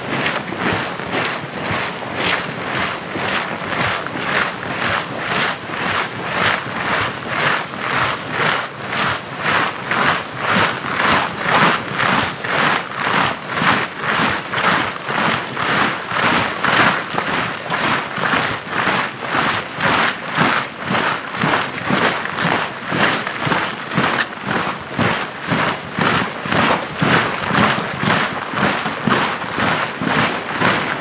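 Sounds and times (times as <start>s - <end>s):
soldiers marching on snow: 0.0s - 31.0s.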